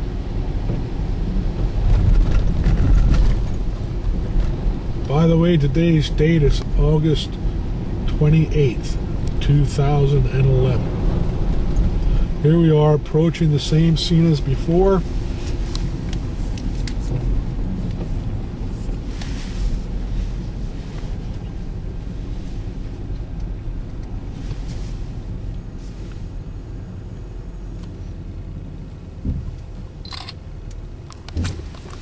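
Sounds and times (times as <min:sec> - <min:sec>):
car driving rumble: 0:00.0 - 0:32.0.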